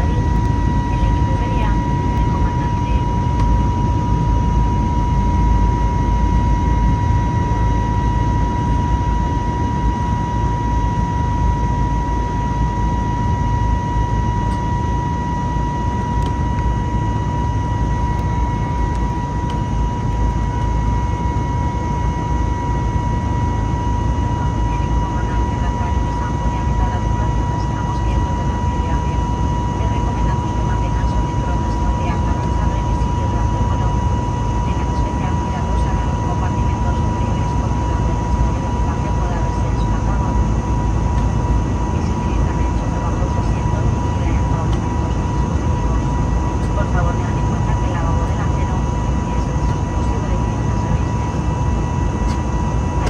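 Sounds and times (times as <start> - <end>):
aircraft engine and airflow rumble: 0.0 - 53.0
steady high whine: 0.0 - 53.0.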